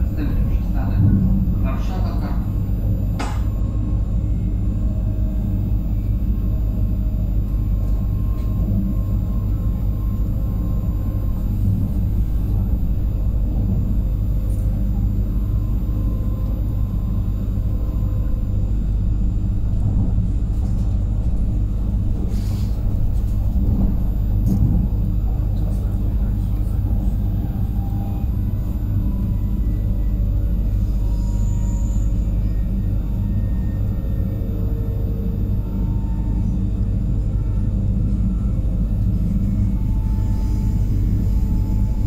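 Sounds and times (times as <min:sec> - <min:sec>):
electric train running: 0:00.0 - 0:42.0.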